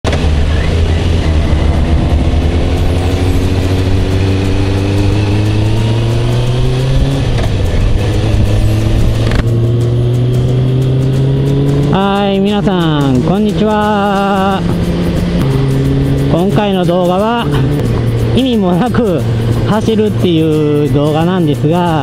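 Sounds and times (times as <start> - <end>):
motorcycle engine accelerating: 0.0 - 22.0
steady rushing noise: 0.1 - 22.0.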